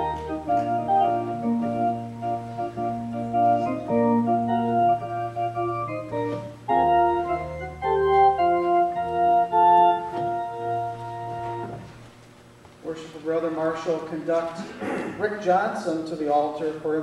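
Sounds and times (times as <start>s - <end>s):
organ playing slow chords: 0.0s - 15.4s.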